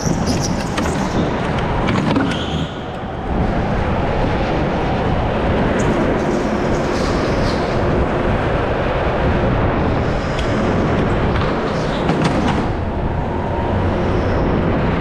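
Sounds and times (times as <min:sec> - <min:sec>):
go-kart driving at speed: 0:00.0 - 0:15.0.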